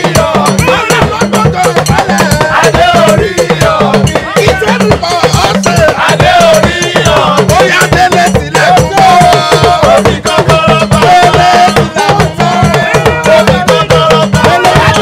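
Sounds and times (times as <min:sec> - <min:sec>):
hand drums: 0:00.0 - 0:15.0
men singing together: 0:00.0 - 0:15.0.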